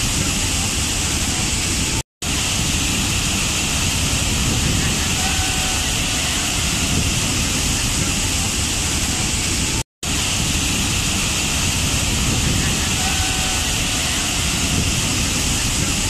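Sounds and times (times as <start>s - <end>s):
waterfall crashing onto rocks: 0.0s - 16.0s.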